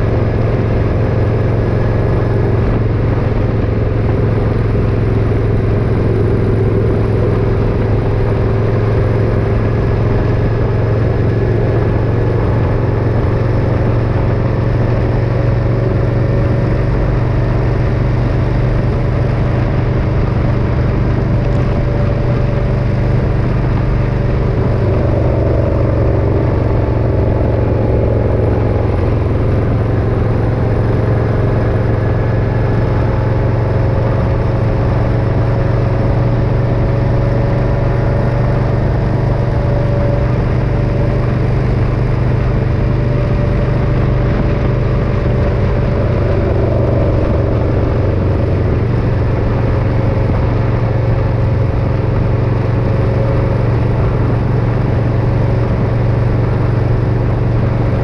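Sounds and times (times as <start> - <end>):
motorcycle engine drone: 0.0 - 58.0
road and wind noise: 0.0 - 58.0.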